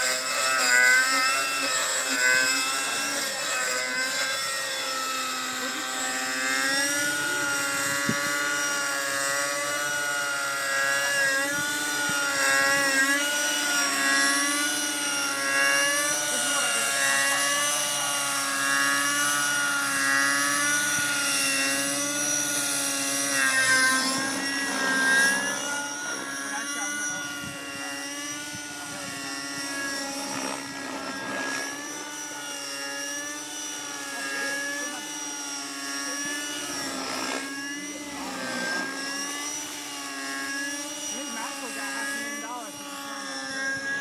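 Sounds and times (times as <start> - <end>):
rc helicopter engine whine: 0.0 - 44.0.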